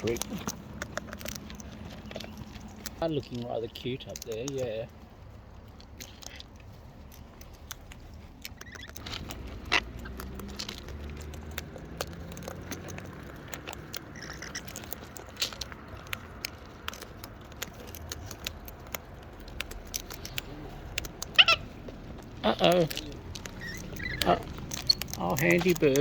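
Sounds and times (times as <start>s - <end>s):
beaks and claws tapping and scraping: 0.0s - 26.0s.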